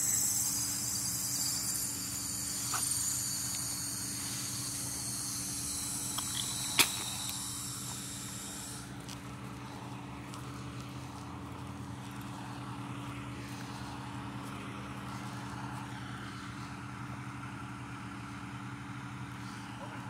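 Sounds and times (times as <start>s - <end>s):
crickets chirping: 0.0s - 16.7s
low steady hum: 0.0s - 20.0s.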